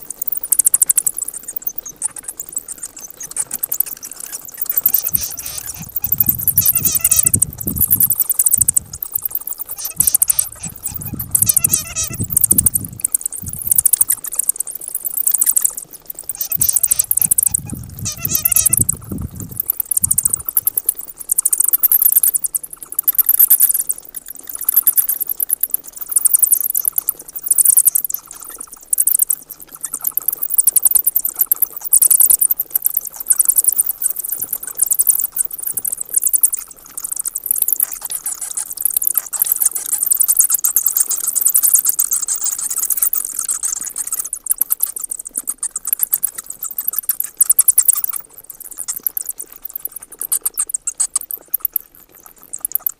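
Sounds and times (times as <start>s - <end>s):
bats squeaking: 0.0s - 52.9s.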